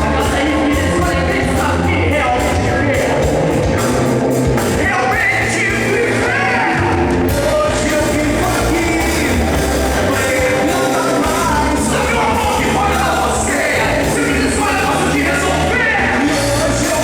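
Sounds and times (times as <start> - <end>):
person singing: 0.0 - 17.0
worship band playing rock song: 0.0 - 17.0.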